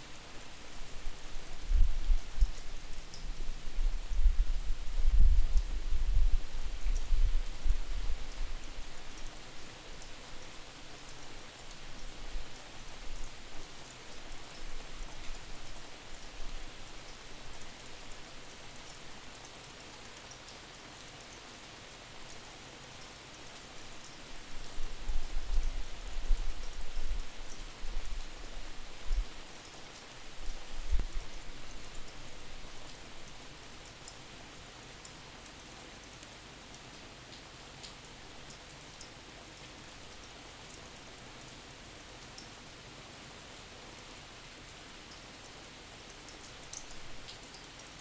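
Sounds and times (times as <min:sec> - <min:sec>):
rain pattering: 0:00.0 - 0:48.0.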